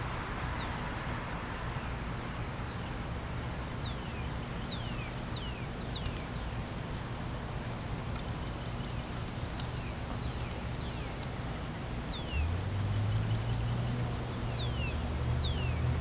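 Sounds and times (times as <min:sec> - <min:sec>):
bird chirping: 0:00.4 - 0:03.0, 0:03.6 - 0:06.6, 0:08.1 - 0:16.0.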